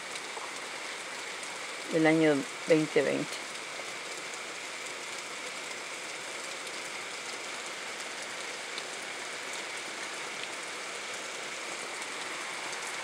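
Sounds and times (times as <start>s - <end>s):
steady rain on trees: 0.0s - 13.0s.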